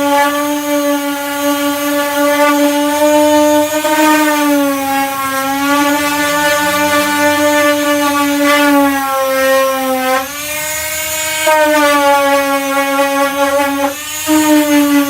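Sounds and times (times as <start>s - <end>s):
power sander whining: 0.0s - 15.0s.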